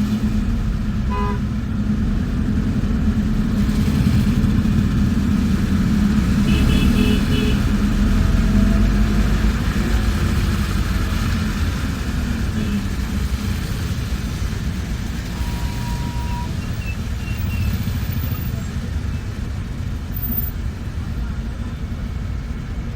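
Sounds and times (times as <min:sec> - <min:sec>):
bus engine and road noise: 0:00.0 - 0:22.9.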